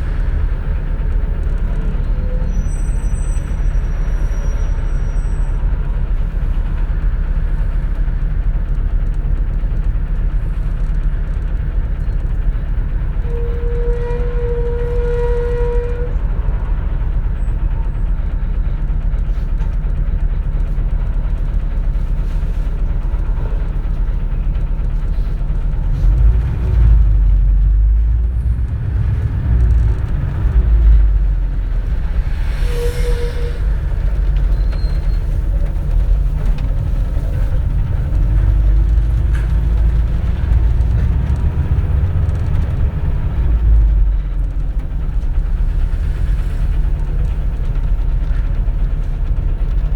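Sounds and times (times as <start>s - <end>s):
bus engine and road rumble: 0.0s - 49.9s.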